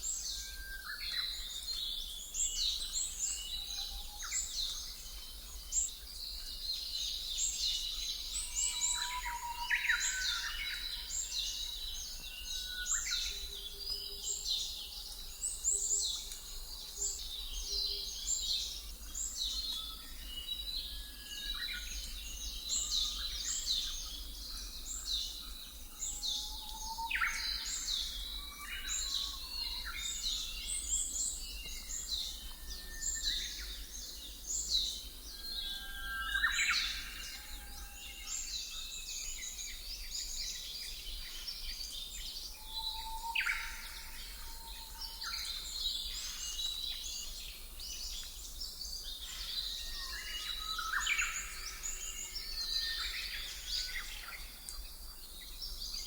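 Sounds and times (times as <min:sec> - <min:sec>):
many birds chirping and singing: 0:00.0 - 0:56.0.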